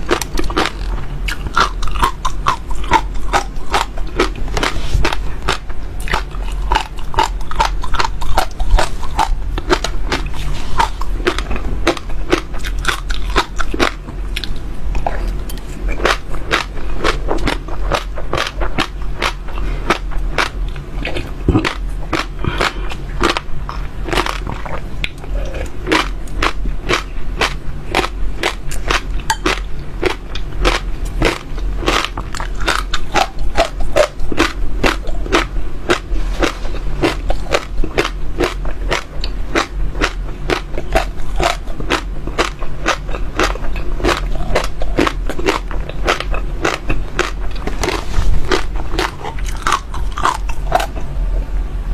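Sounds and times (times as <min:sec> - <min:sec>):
seeds crunched between teeth: 0:00.0 - 0:51.0.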